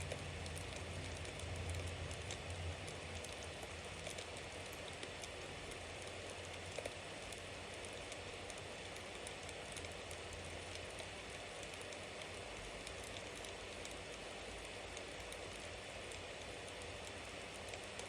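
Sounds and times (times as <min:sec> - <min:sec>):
fire crackles and pops: 0:00.0 - 0:18.0.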